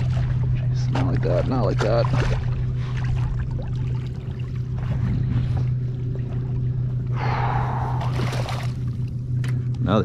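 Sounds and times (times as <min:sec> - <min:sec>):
water splashing against kayak: 0:00.0 - 0:06.9, 0:08.0 - 0:09.1
steady low hum: 0:00.0 - 0:10.0.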